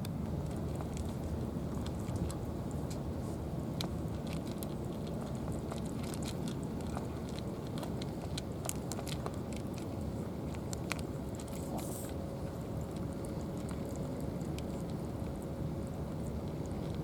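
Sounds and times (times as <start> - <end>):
cats crunching dry food: 0.0 - 17.0
steady low rumble: 0.0 - 17.0.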